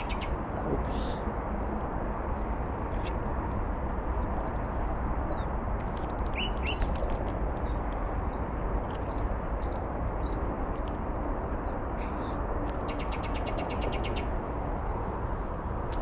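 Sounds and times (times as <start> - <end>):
small birds chirping: 0.0 - 3.2, 4.0 - 15.1.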